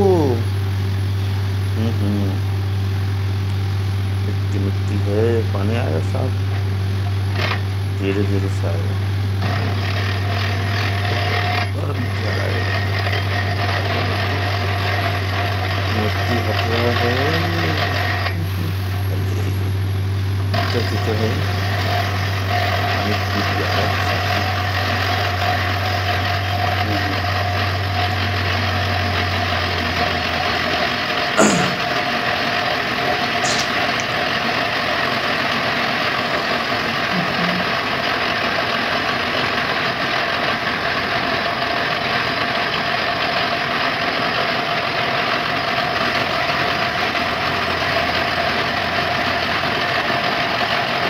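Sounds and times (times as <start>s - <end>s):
drilling rig running: 0.0s - 51.0s.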